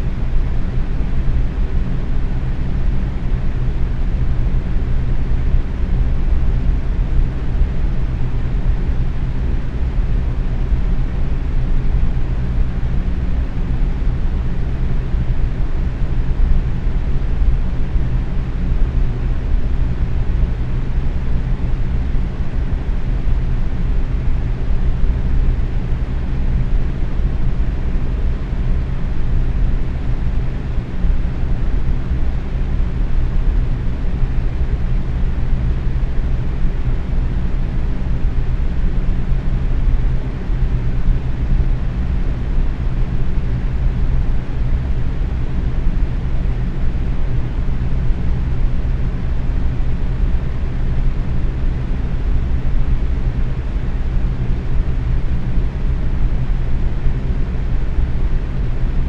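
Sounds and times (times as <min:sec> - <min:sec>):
faint motor hum: 0:00.0 - 0:59.0.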